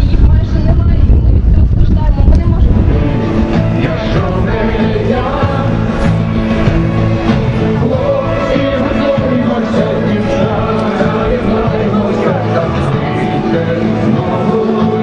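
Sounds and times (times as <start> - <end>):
music with singing: 0.0 - 15.0.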